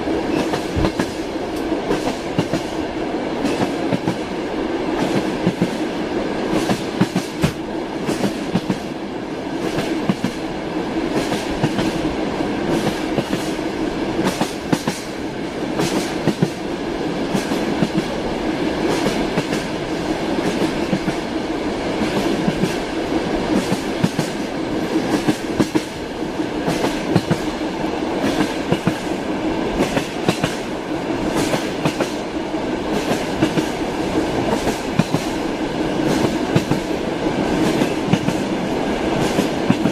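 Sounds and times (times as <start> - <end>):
train rumbling: 0.0 - 39.9
train wheels clattering on rails: 0.0 - 39.9.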